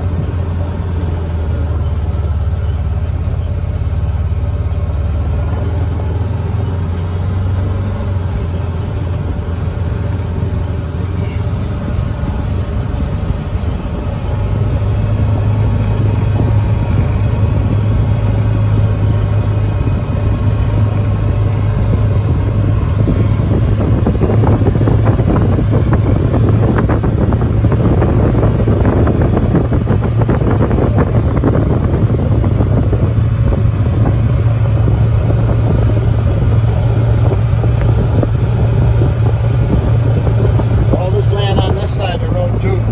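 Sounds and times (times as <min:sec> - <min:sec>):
utility vehicle engine driving: 0:00.0 - 0:42.9.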